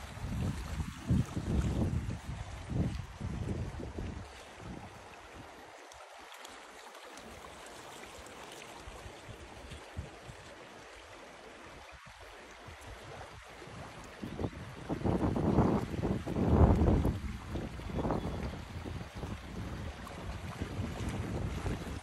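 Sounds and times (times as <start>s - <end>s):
brook babbling over stones: 0.0s - 22.0s.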